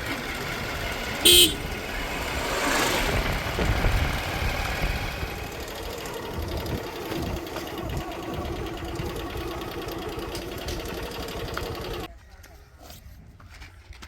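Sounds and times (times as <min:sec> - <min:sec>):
diesel engine running: 0:00.0 - 0:12.1.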